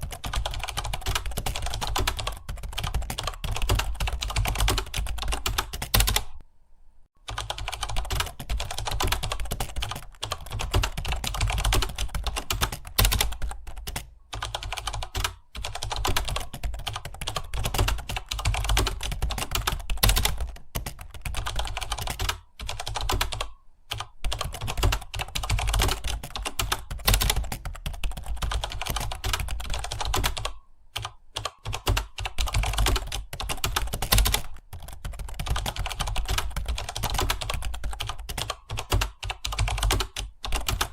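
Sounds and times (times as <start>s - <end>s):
fast typing on a keyboard: 0.0s - 6.4s, 7.3s - 40.9s.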